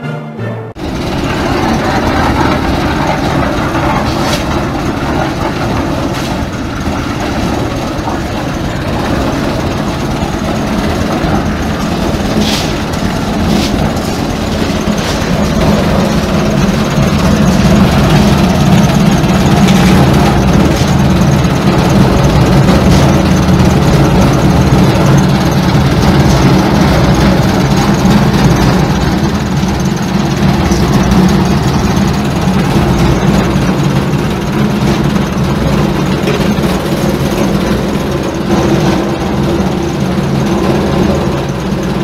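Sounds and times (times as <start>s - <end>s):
concrete mixer engine running: 0.8s - 42.0s.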